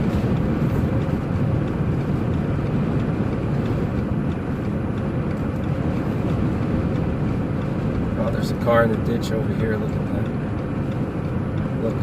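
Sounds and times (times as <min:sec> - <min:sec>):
vehicle cabin road rumble: 0:00.0 - 0:12.0.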